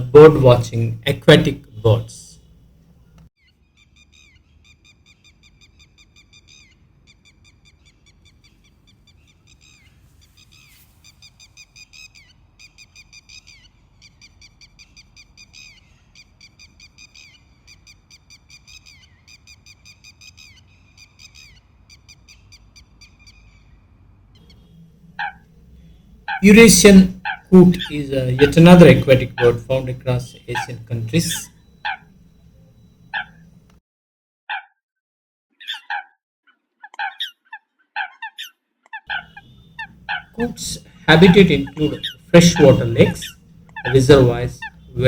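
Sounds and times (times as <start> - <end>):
bird calling rapid high notes: 3.4 - 33.7, 36.8 - 45.0.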